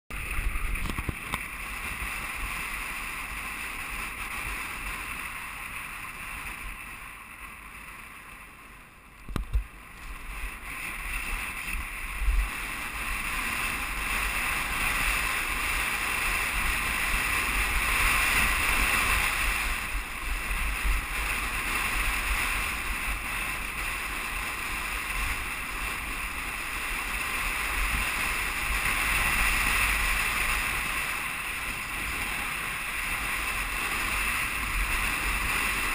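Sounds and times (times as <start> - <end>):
wind buffeting a camera: 0.1 - 8.1, 9.1 - 35.9.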